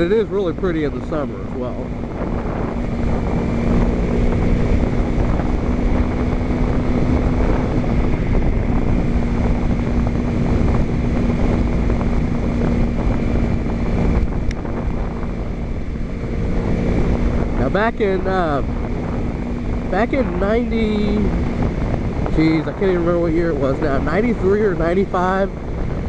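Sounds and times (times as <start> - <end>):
motorcycle engine drone: 0.0 - 26.0
wind rush on helmet: 0.0 - 26.0.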